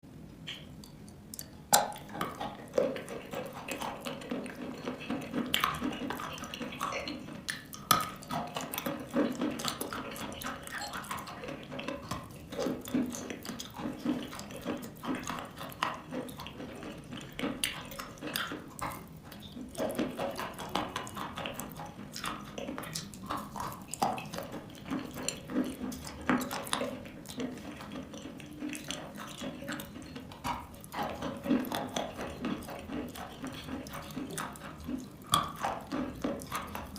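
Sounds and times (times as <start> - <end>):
wet crunching and chewing: 0.2 - 36.9.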